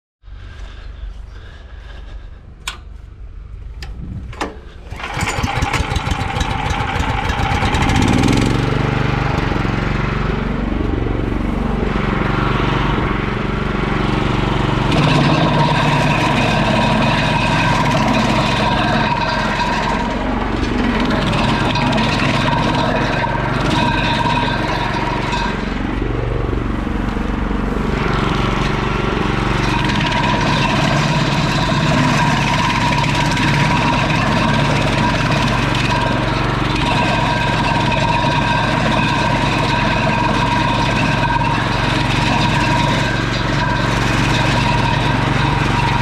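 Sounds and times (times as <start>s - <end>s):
wood chipper running: 0.3s - 46.0s.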